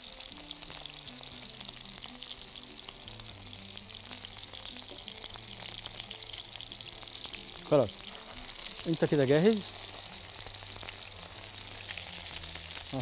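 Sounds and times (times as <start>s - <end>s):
chicken skin sizzling in a pan: 0.0s - 13.0s
soft background music: 0.0s - 13.0s.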